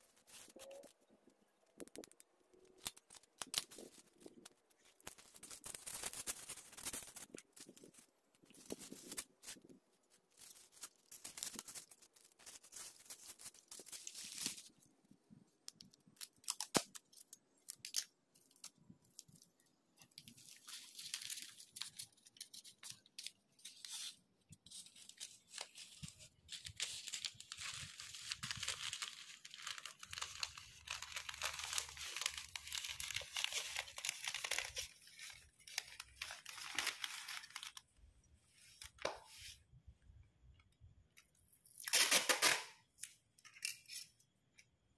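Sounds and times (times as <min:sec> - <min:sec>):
plastic wrapping crinkling: 0:00.0 - 0:14.9, 0:15.7 - 0:38.0.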